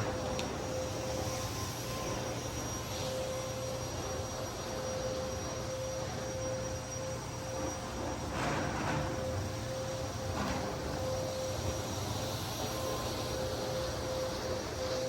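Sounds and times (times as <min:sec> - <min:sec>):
vacuum motor whine: 0:00.0 - 0:15.0.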